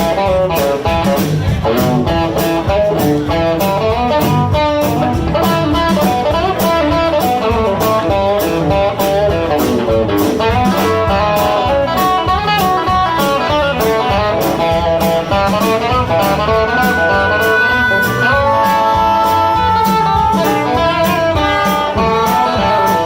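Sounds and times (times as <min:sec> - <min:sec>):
bass guitar: 0:00.0 - 0:23.0
drum beat: 0:00.0 - 0:23.0
electric guitar bending notes: 0:00.0 - 0:23.0.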